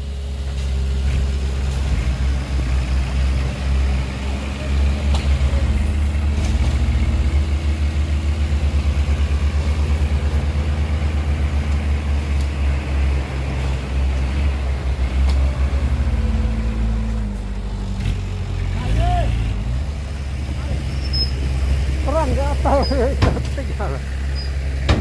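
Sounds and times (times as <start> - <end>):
heavy diesel engine rumbling: 0.0 - 25.0.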